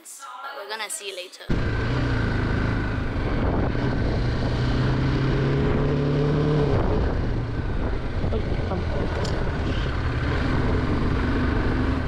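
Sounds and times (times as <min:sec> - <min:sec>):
motorcycle engine running: 0:01.5 - 0:12.0
wind noise: 0:01.5 - 0:12.0.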